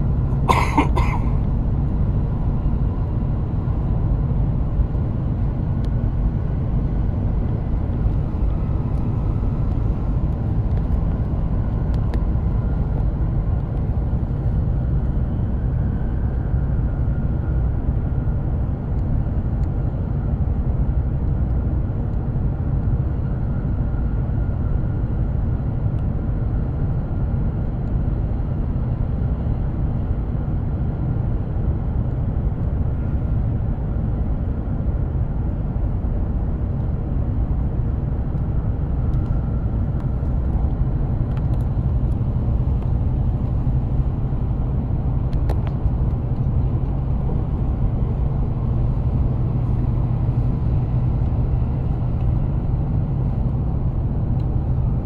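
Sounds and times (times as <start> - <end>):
train running rumble: 0.0 - 25.8, 28.0 - 55.0.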